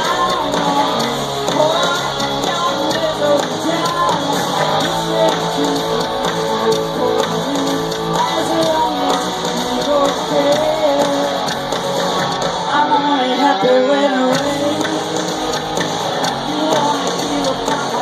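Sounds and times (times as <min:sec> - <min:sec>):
live rock band playing: 0:00.0 - 0:18.0
person singing: 0:00.0 - 0:18.0
strummed guitars: 0:00.0 - 0:18.0.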